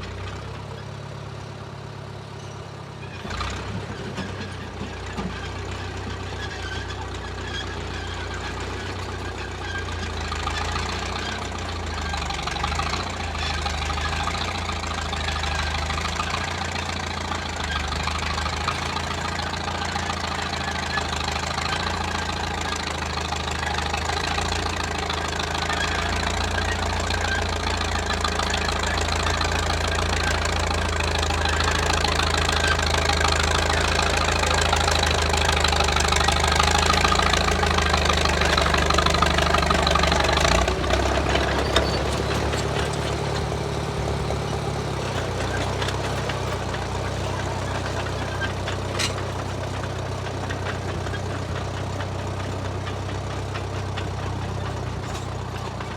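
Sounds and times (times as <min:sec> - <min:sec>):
bulldozer engine running: 0:00.0 - 0:55.9.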